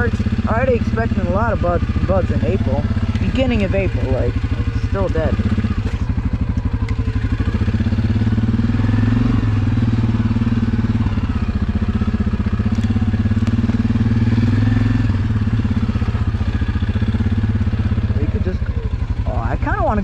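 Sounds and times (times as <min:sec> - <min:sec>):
atv engine chugging: 0:00.0 - 0:20.0.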